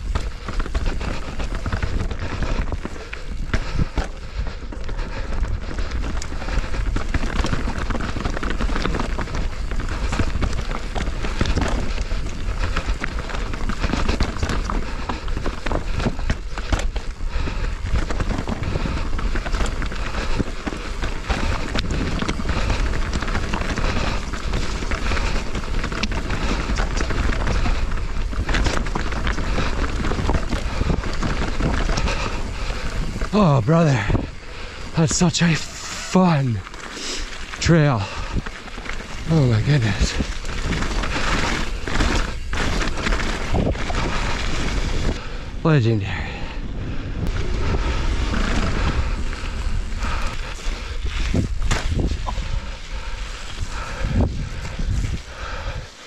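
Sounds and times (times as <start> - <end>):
bike clicks and rattles: 0.0 - 56.0
tyres rushing on dirt: 0.0 - 56.0
wind buffeting microphone: 0.0 - 56.0.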